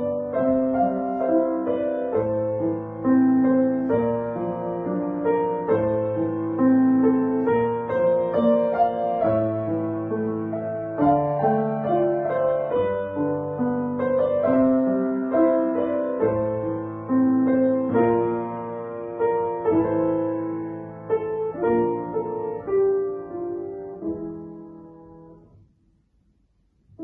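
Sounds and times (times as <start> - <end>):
solo acoustic piano melody: 0.0 - 27.0.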